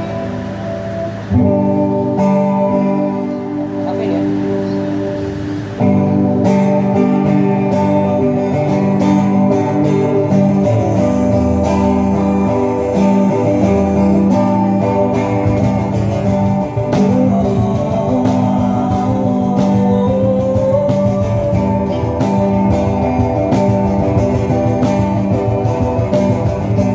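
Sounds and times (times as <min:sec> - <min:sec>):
acoustic guitar strumming: 0:00.0 - 0:26.9.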